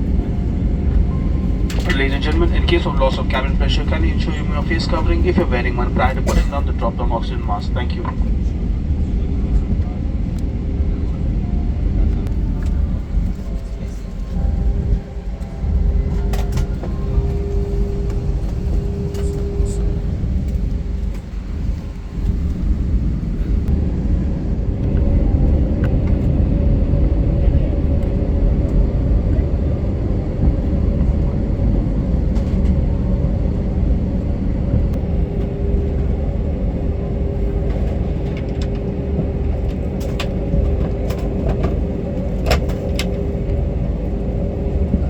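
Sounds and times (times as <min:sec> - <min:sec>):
airliner cabin rumble: 0:00.0 - 0:45.0
constant hum: 0:00.0 - 0:45.0.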